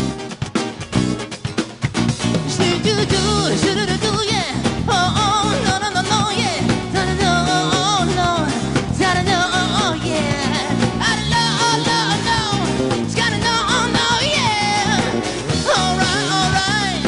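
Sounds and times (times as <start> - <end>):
bending melodic lead line: 0.0 - 17.0
live band playing pop-rock: 0.0 - 17.0.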